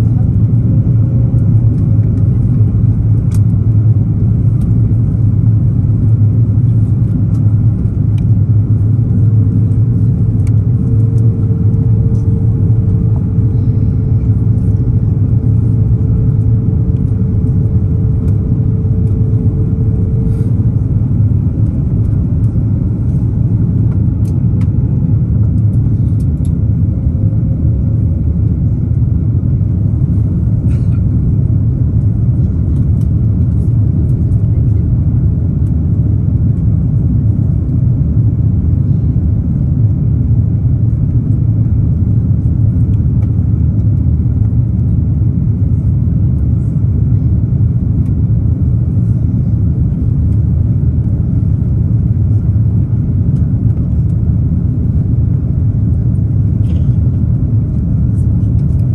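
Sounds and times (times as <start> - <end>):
airliner cabin rumble: 0.0 - 58.9
faint steady hum: 0.0 - 58.9
jet engines: 0.0 - 58.9.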